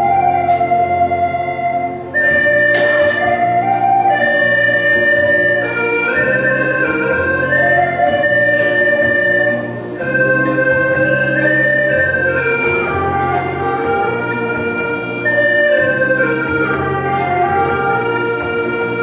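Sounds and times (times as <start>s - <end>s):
flutes playing melody: 0.0s - 19.0s
light steady beat: 0.0s - 19.0s
low bass notes: 0.0s - 19.0s.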